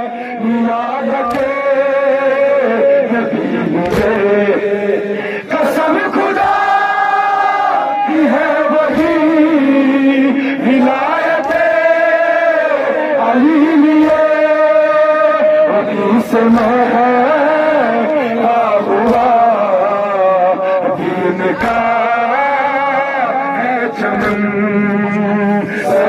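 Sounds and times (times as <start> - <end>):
crowd chanting: 0.0 - 26.0
man chanting into a microphone: 0.0 - 26.0.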